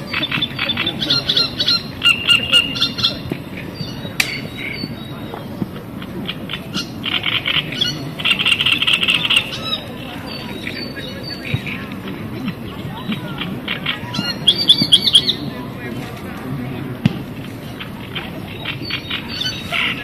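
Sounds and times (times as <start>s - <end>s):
small songbirds singing: 0.0s - 15.6s, 17.6s - 20.0s
low outdoor murmur: 0.0s - 20.0s.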